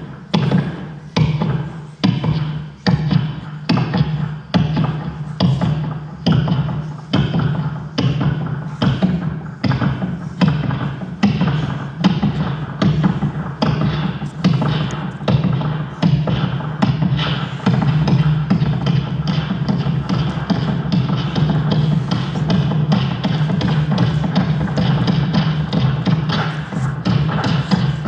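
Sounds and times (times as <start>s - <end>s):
low electronic drone: 0.0s - 28.0s.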